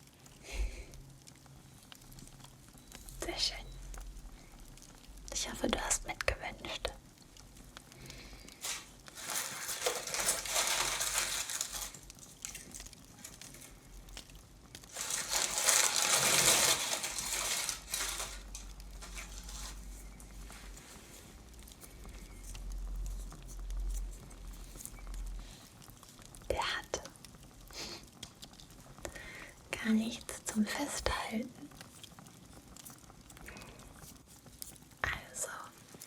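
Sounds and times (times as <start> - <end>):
wrapping crinkling and rustling: 0.0 - 36.0.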